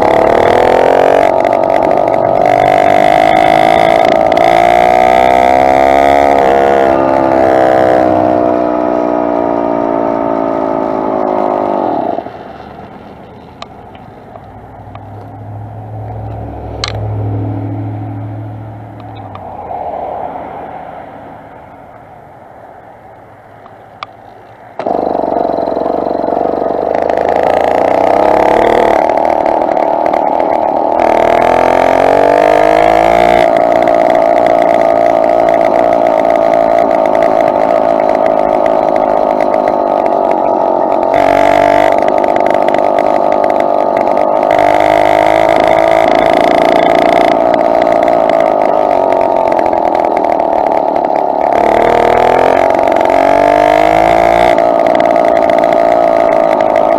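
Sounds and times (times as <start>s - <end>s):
two-stroke bicycle engine: 0.0s - 22.1s, 23.1s - 56.9s.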